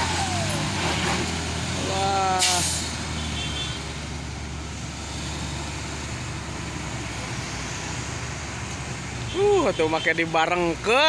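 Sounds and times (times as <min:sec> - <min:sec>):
truck diesel engine under load: 0:00.0 - 0:09.7.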